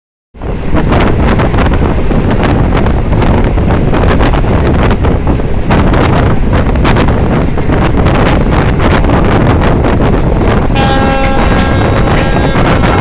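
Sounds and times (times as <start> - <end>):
strong wind buffeting microphone: 0.4 - 13.0.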